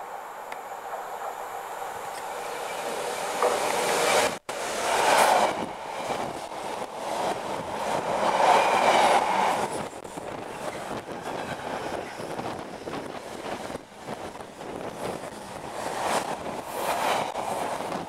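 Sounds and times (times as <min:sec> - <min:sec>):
diesel locomotive passing: 0:00.0 - 0:18.0.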